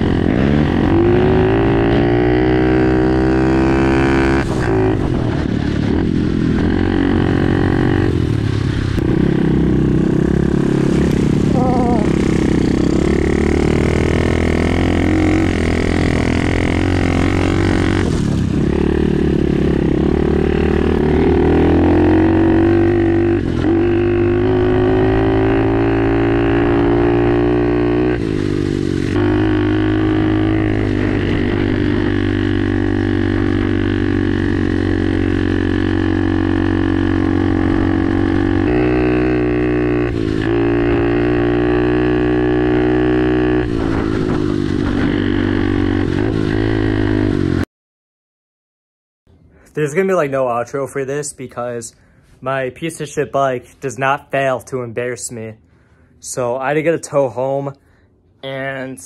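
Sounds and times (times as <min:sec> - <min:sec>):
motorcycle engine droning: 0:00.0 - 0:47.6.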